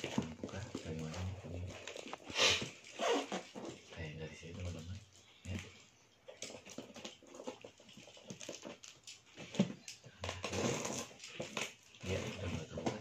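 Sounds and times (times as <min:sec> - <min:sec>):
packing tape scraping: 0:00.0 - 0:03.9, 0:06.4 - 0:13.0.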